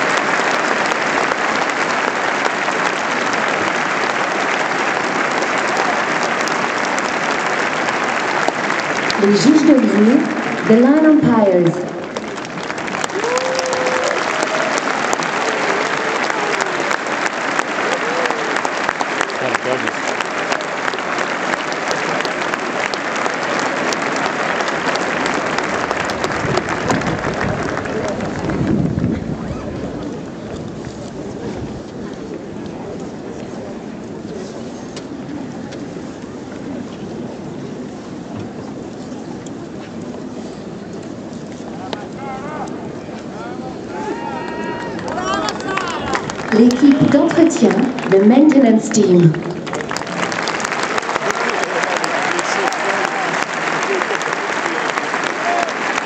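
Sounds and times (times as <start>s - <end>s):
stadium crowd applauding: 0.0s - 35.6s, 40.9s - 56.0s.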